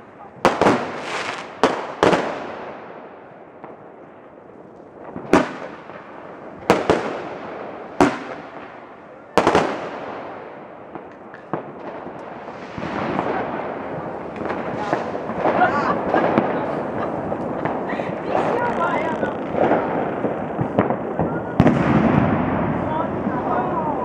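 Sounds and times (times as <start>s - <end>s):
fireworks bangs: 0.0s - 24.0s
fireworks rumble and crackle: 0.0s - 24.0s.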